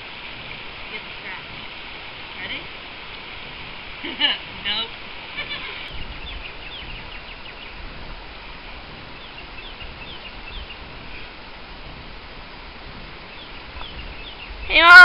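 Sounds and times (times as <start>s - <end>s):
background hiss: 0.0s - 15.0s
birds chirping: 0.0s - 15.0s.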